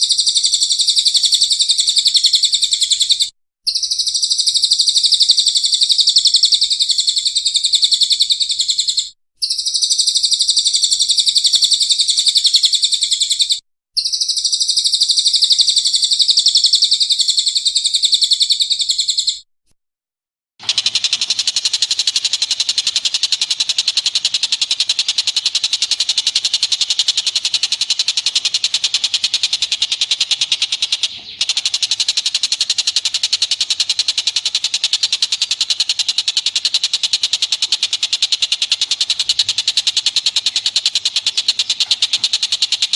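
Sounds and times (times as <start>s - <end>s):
songbird chattering song: 0.0s - 19.4s, 20.6s - 42.9s.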